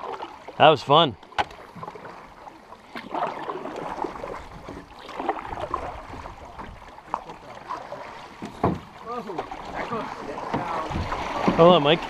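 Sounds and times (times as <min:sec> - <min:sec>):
canoe paddle strokes in water: 0:00.0 - 0:12.0
water gurgling and trickling: 0:00.0 - 0:12.0.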